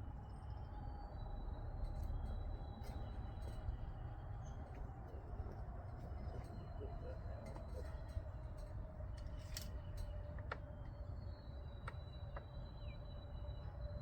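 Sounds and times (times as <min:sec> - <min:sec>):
faint continuous hum: 0:00.0 - 0:14.0.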